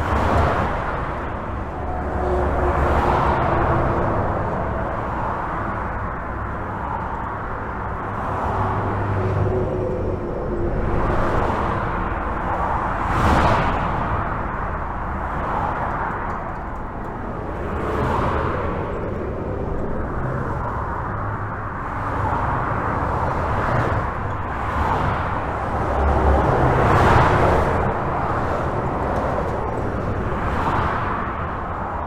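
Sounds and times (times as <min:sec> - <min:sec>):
highway traffic rumble: 0:00.0 - 0:32.0.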